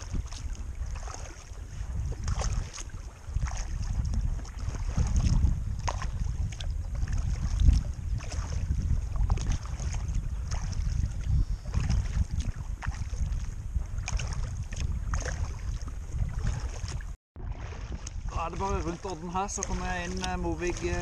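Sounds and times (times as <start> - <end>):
paddle splashing in water: 0.0 - 21.0
wind rumble on microphone: 0.0 - 21.0.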